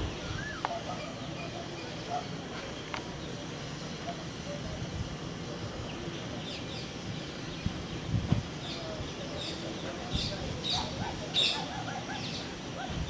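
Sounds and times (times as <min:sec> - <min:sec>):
birds chirping: 0:00.0 - 0:04.2, 0:05.7 - 0:13.0
distant jet engines rumbling: 0:00.0 - 0:13.0.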